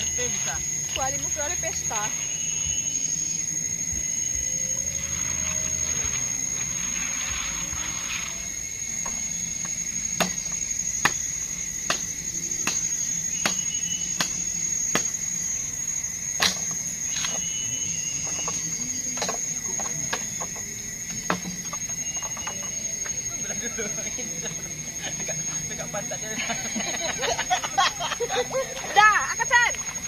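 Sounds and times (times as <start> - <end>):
forest insects droning: 0.0 - 30.0.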